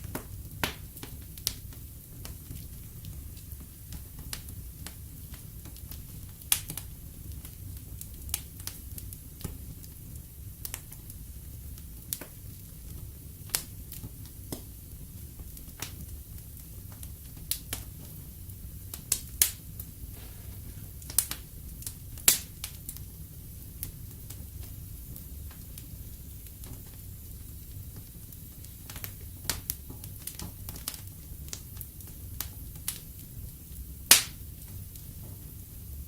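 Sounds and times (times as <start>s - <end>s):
low rumble of flames: 0.0s - 36.0s
wood fire crackling and popping: 0.0s - 36.0s.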